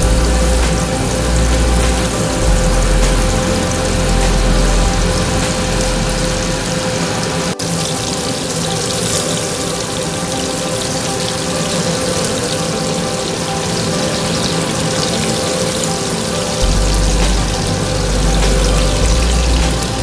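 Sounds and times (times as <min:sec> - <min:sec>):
steady hum: 0:00.0 - 0:09.3, 0:11.5 - 0:20.0.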